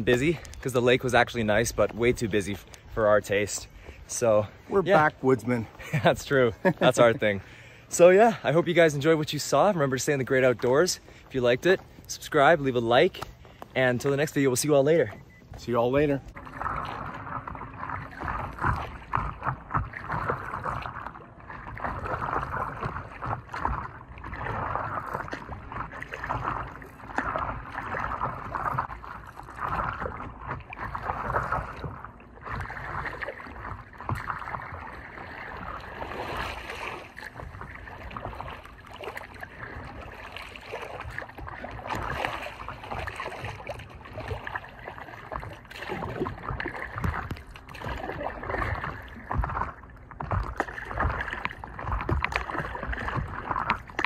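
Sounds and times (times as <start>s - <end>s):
paddle dipping in water: 0.0s - 54.0s
water splashing against board: 8.9s - 54.0s.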